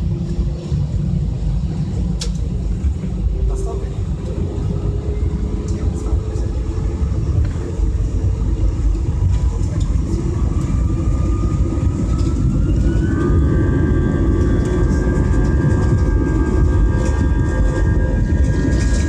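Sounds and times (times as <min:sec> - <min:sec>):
jet engine rumble in cabin: 0:00.0 - 0:19.0
jet engine whine: 0:00.0 - 0:19.0.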